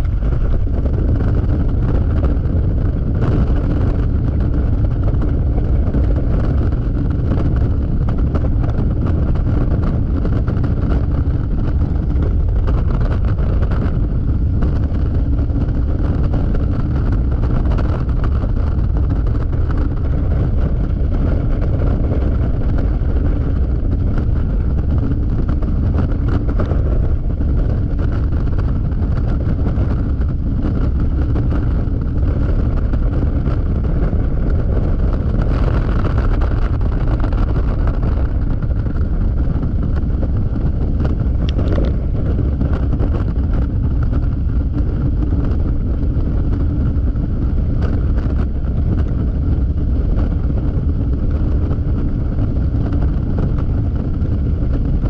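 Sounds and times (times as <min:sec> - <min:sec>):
scooter engine and tyres: 0:00.0 - 0:55.0
wind rushing on microphone: 0:00.0 - 0:55.0.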